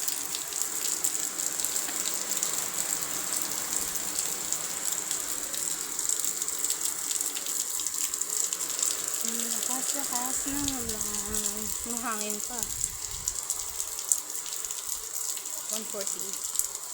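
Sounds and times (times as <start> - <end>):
heavy rain falling: 0.0 - 16.9.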